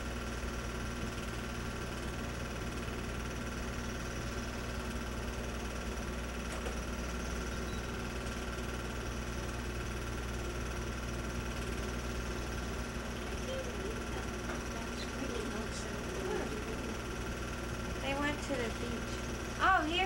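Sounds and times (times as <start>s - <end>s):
film projector whirring: 0.0s - 20.0s
low electrical hum: 0.0s - 20.0s.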